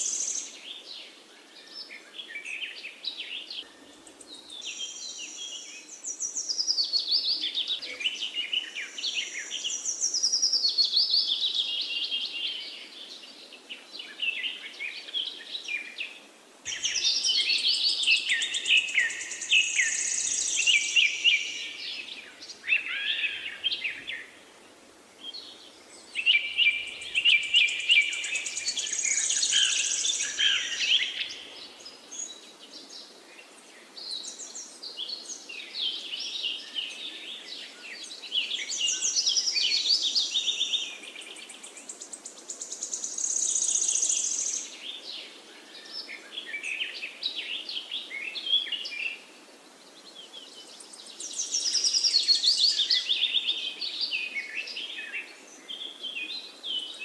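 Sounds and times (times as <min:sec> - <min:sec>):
songbird chirping and trilling: 0:00.0 - 0:24.5, 0:25.1 - 0:57.0.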